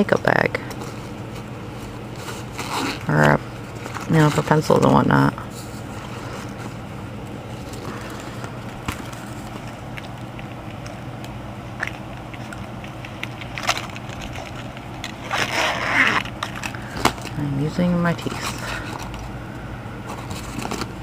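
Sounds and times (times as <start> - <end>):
steady low hum: 0.0 - 21.0
plastic packaging crinkling: 1.8 - 11.1, 11.7 - 19.3.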